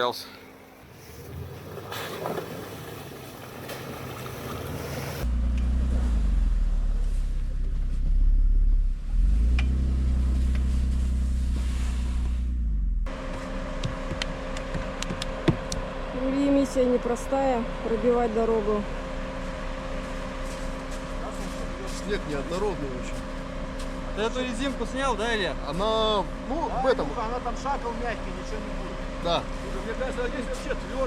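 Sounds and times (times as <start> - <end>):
suv engine droning under load: 0.4 - 31.0.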